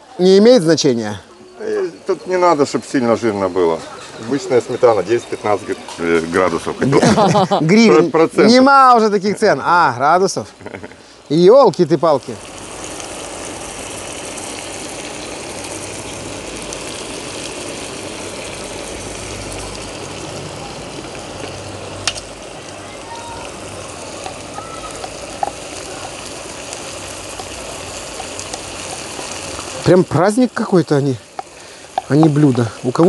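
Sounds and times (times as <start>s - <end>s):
food sizzling in a cauldron: 0.0s - 33.0s.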